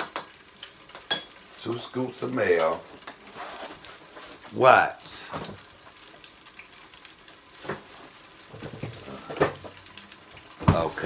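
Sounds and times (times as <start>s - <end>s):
fish deep-frying sizzle: 0.0s - 11.0s.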